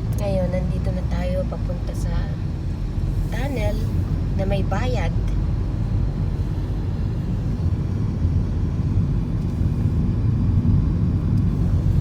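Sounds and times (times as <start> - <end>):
car driving road rumble: 0.0 - 12.0.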